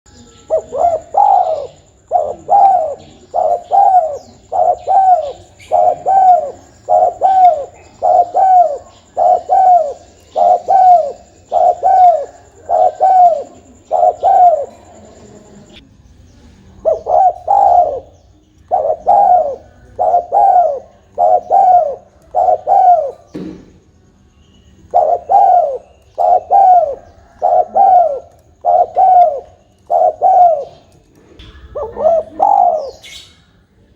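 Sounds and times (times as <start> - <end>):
dove cooing: 0.1 - 15.8, 16.8 - 23.4, 24.8 - 33.5.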